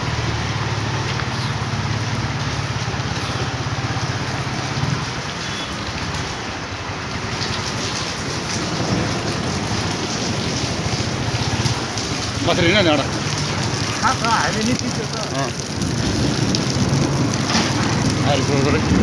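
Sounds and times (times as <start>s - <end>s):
heavy rain hiss: 0.0s - 19.0s.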